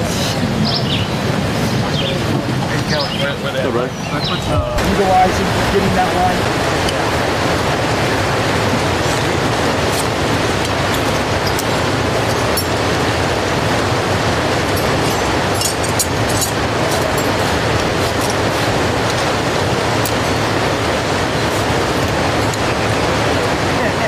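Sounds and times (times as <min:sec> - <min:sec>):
river water rushing over a dam: 0:00.0 - 0:24.0.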